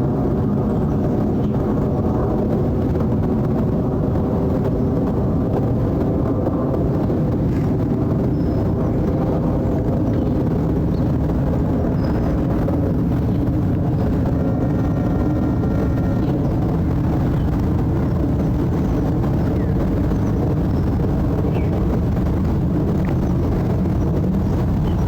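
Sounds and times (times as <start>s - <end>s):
jet airliner rumble: 0.0s - 25.0s.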